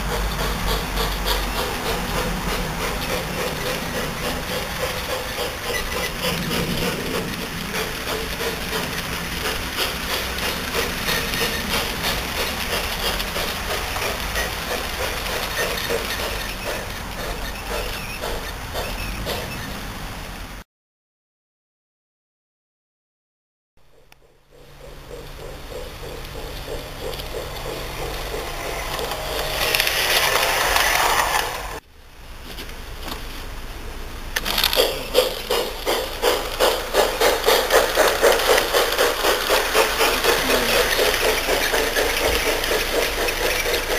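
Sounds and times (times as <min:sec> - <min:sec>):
model train running noise: 0:00.0 - 0:20.6, 0:23.9 - 0:31.8, 0:32.6 - 0:43.9
wheels clicking and rattling on rail: 0:00.0 - 0:20.6, 0:23.8 - 0:31.8, 0:32.4 - 0:43.9.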